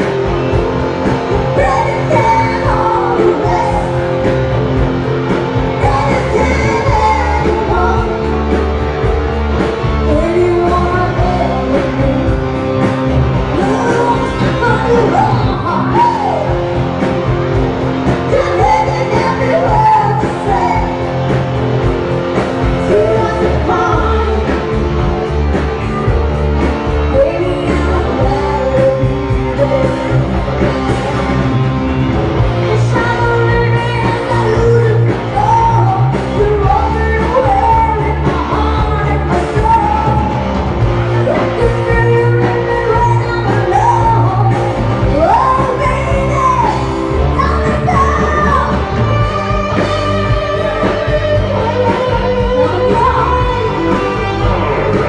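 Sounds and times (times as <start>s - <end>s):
woman singing into microphone: 0.0s - 8.7s, 10.0s - 16.6s, 18.1s - 21.2s, 22.6s - 25.1s, 27.0s - 31.5s, 32.5s - 55.0s
live rock band: 0.0s - 55.0s.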